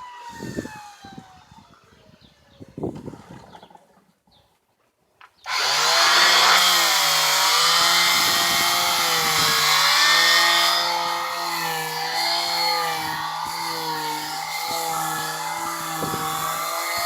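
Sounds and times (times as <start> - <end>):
power tool motor whine: 0.0 - 2.6, 5.5 - 17.0.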